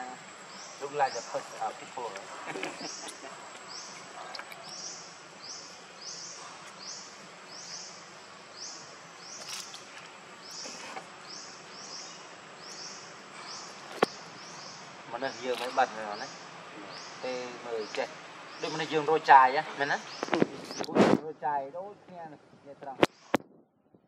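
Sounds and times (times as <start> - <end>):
high insect whine: 0.0 - 20.9.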